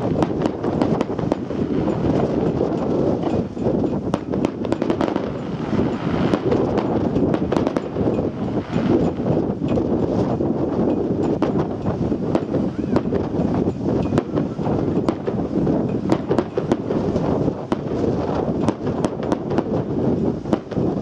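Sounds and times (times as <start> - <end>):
fireworks cracks and bangs: 0.0 - 21.0
wind buffeting microphone: 0.0 - 21.0.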